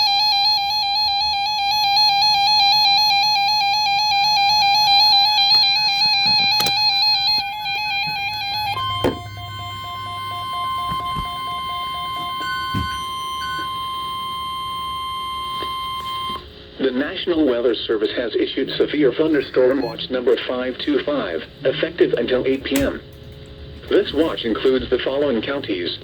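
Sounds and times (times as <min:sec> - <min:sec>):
steady attention tone: 0:00.0 - 0:18.0, 0:18.6 - 0:22.4.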